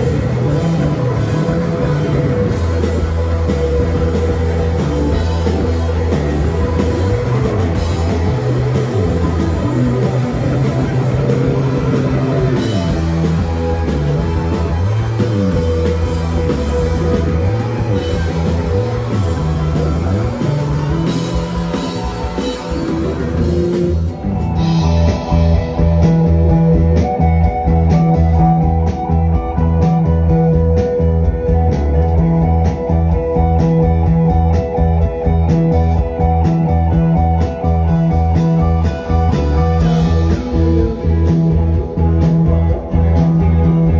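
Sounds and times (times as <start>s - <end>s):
gliding electric guitar lines: 0.0s - 43.9s
live psychedelic rock band: 0.0s - 43.9s
steady driving beat: 0.0s - 43.9s.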